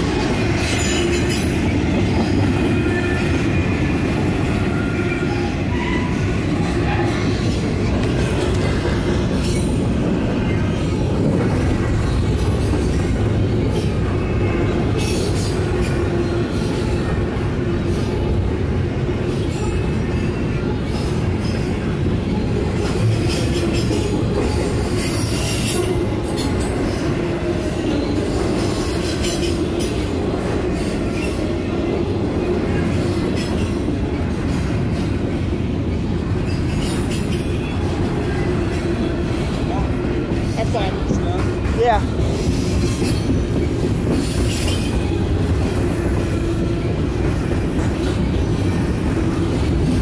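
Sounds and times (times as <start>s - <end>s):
freight train wheels rumbling on rails: 0.0s - 50.0s.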